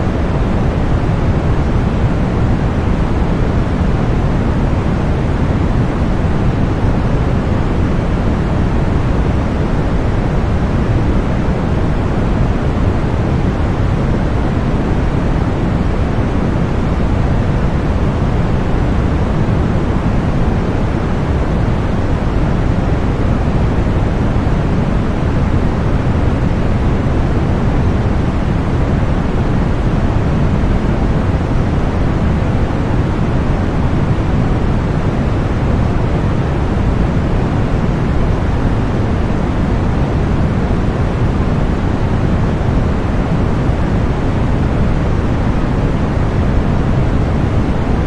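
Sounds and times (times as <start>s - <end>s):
white noise hiss: 0.0s - 48.0s.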